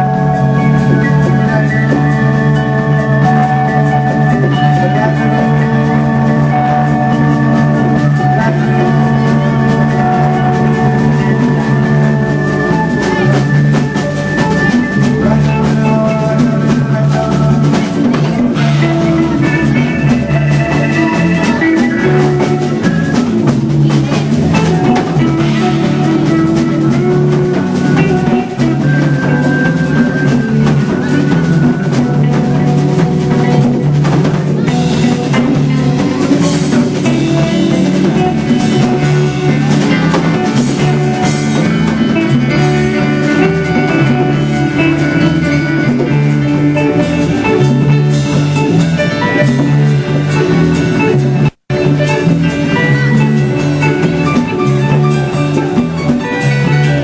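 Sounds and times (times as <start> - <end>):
live band playing: 0.0 - 57.0.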